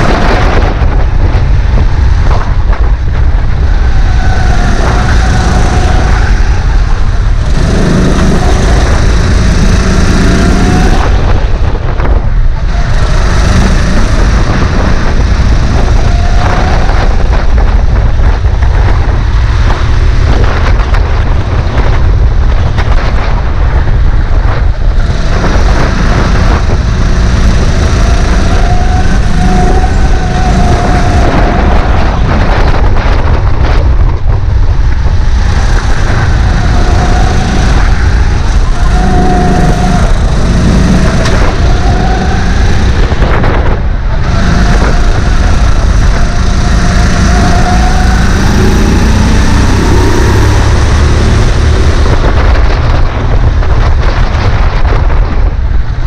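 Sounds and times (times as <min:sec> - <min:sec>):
kart engine revving: 0:00.0 - 0:54.9
heavy low rumble: 0:00.0 - 0:56.0.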